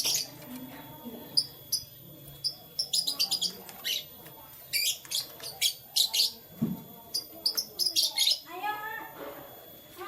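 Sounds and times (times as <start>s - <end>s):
canaries chirping: 0.0s - 8.8s.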